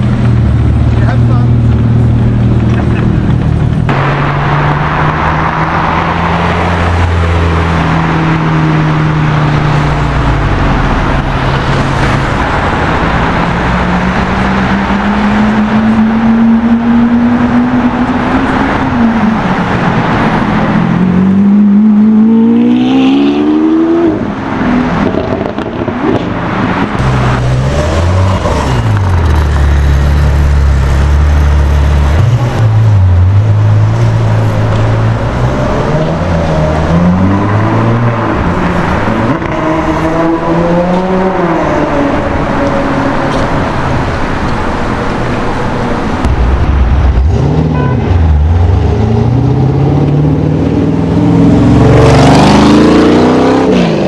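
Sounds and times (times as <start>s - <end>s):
supercar engines revving: 0.0s - 54.0s.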